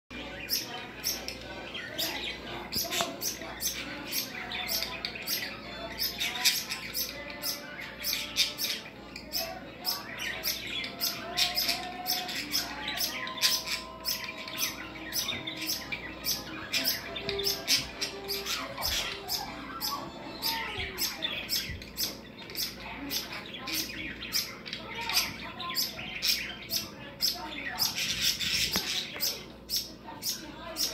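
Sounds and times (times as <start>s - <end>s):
budgerigar chicks chirping: 0.1s - 30.9s.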